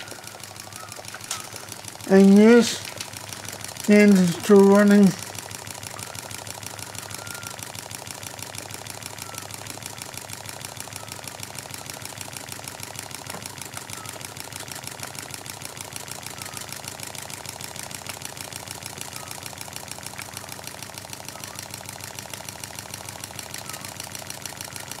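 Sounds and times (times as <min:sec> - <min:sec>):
model steam engine clattering: 0:00.0 - 0:25.0.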